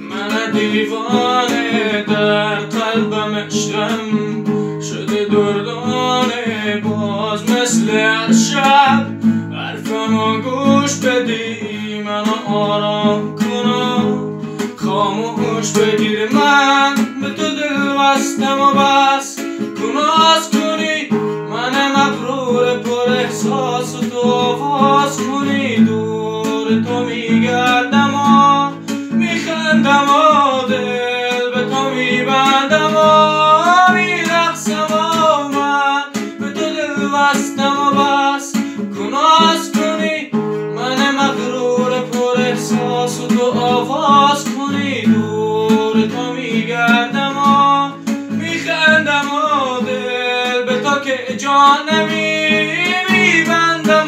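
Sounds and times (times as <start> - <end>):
classical guitar strumming: 0.0 - 54.0
man singing: 0.0 - 54.0.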